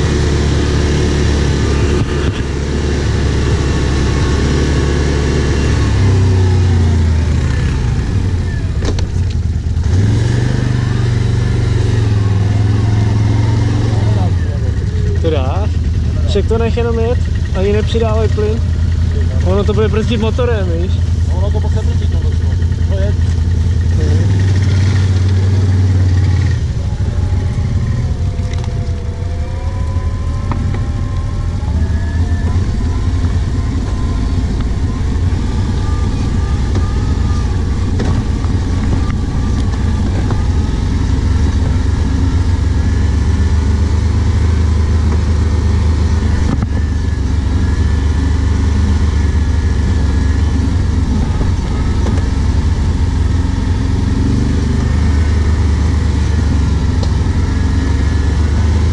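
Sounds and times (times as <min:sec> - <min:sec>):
quad bike engine running: 0:00.0 - 0:58.9.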